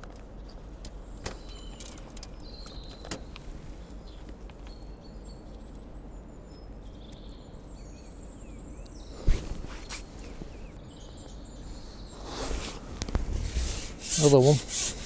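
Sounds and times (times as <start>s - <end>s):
small birds chirping: 0.0s - 13.2s
low outdoor rumble: 0.0s - 14.0s.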